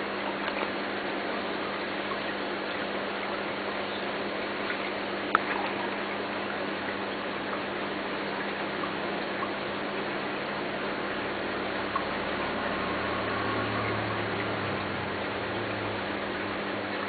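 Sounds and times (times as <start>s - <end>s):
aquarium water and air bubbles: 0.0s - 17.0s.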